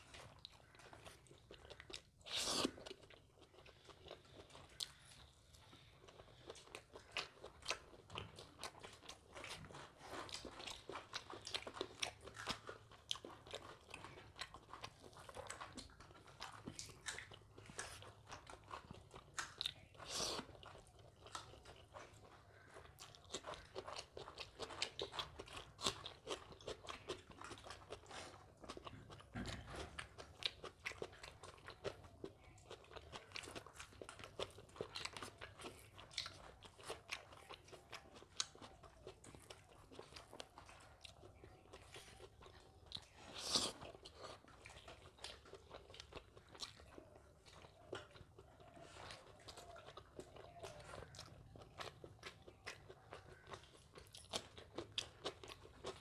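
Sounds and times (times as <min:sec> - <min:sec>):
person chewing with wet clicks: 0:00.0 - 0:56.0.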